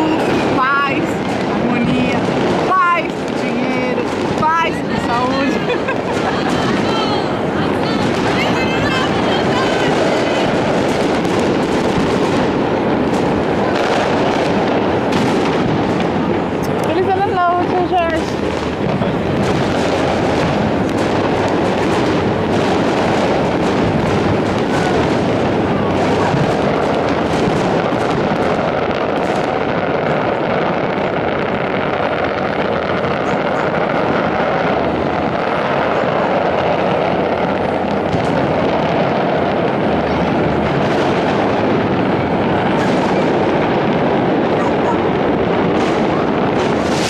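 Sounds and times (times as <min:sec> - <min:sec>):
fireworks banging and crackling: 0:00.0 - 0:47.0
sharp firework cracks: 0:00.0 - 0:47.0.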